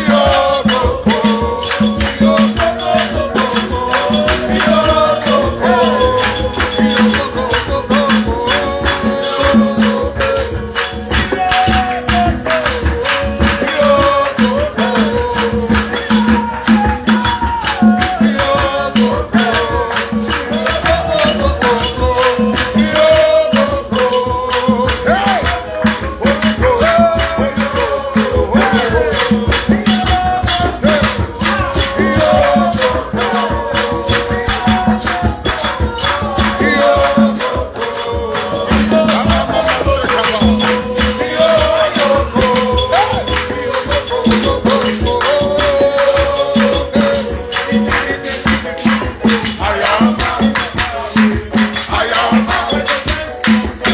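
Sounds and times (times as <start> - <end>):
gospel worship music: 0.0 - 53.9
shaker beat: 0.0 - 53.9.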